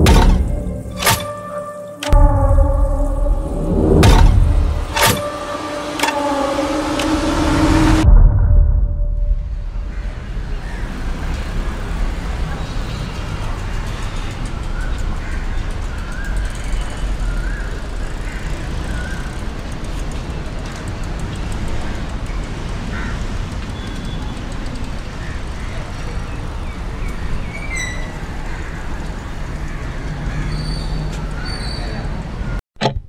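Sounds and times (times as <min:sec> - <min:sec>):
street traffic rumble: 0:00.0 - 0:32.6.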